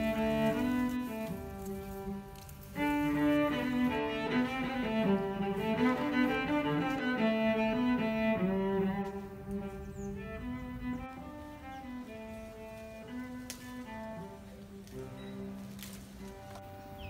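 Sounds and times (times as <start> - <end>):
slow instrumental music: 0.0 - 17.0.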